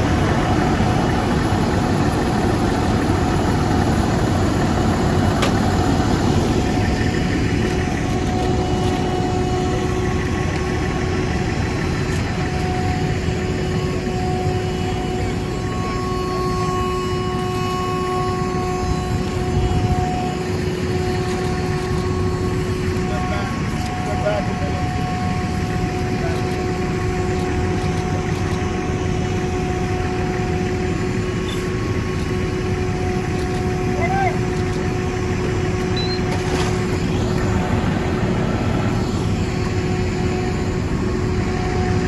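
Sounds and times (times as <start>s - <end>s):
car burning: 0.0s - 42.0s
fire engine motor whining: 0.0s - 42.0s.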